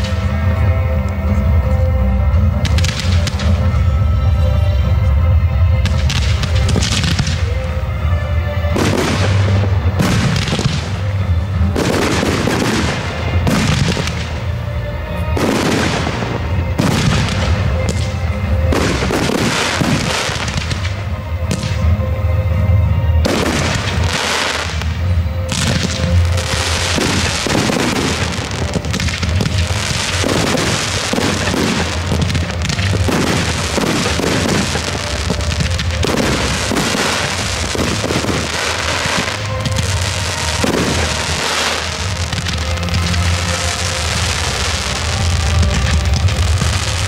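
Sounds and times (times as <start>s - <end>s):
music playing: 0.0s - 47.0s
fireworks shots: 2.5s - 4.1s, 5.8s - 7.8s, 8.6s - 14.6s, 15.2s - 22.1s, 23.2s - 47.0s.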